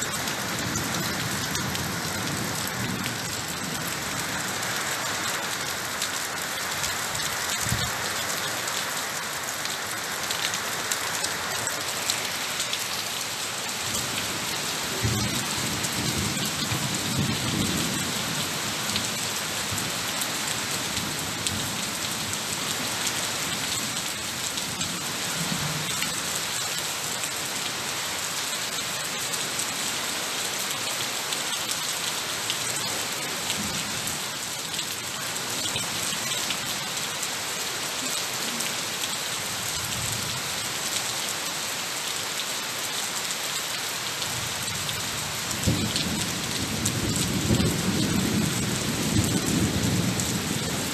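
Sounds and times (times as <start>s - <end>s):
heavy rain on foliage: 0.0s - 50.9s.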